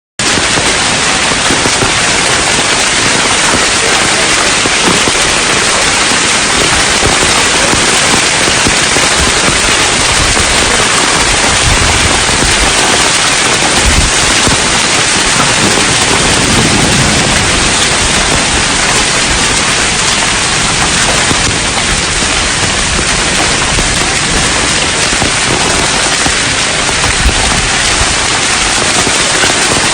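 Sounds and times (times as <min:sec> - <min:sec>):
heavy rain pouring: 0:00.2 - 0:29.9.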